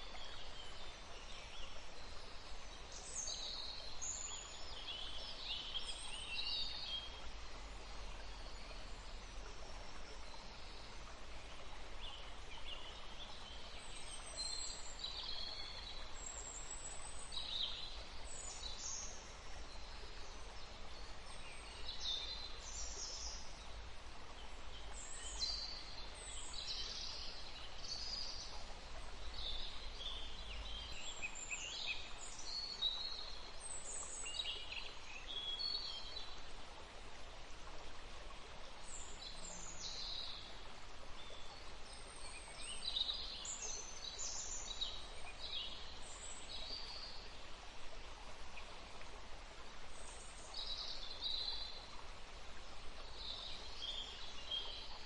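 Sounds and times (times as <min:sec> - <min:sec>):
forest stream rushing: 0:00.0 - 0:55.0
songbirds chirping: 0:00.0 - 0:55.0.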